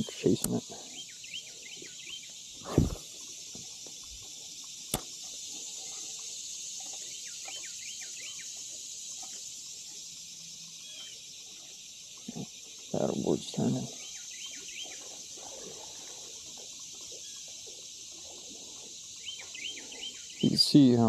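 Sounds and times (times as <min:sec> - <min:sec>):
high insect buzz: 0:00.0 - 0:21.0.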